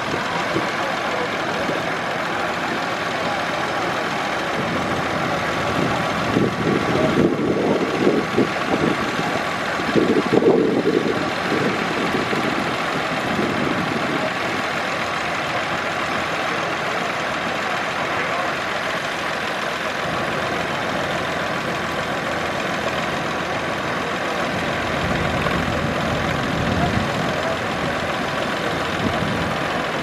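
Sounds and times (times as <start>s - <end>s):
tractor engines idling: 0.0s - 30.0s.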